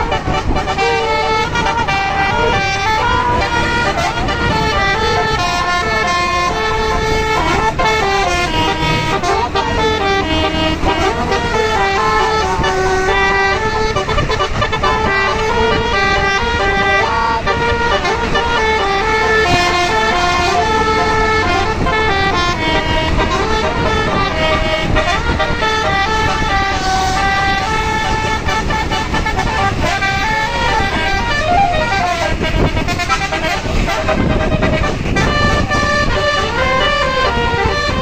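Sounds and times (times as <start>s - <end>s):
bus multi-tone horn melody: 0.0s - 38.0s.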